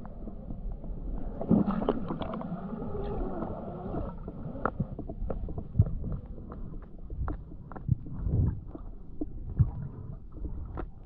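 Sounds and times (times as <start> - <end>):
underwater bubbling and gurgling: 0.0 - 11.0.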